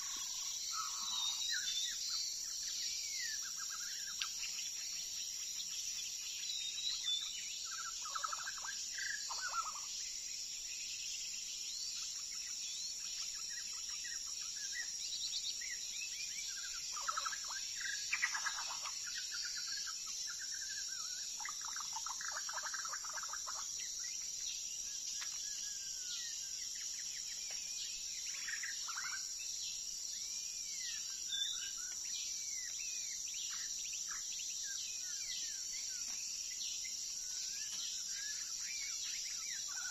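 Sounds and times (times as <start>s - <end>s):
insect drone: 0.0s - 39.9s
songbird singing: 0.0s - 39.9s.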